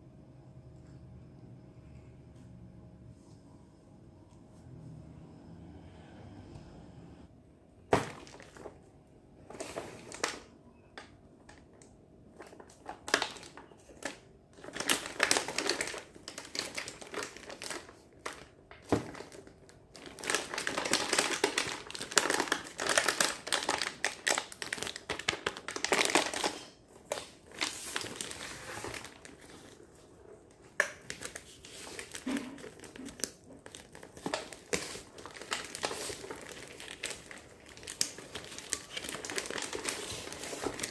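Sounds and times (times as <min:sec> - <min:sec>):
packaging crinkling and rustling: 0:07.9 - 0:40.9.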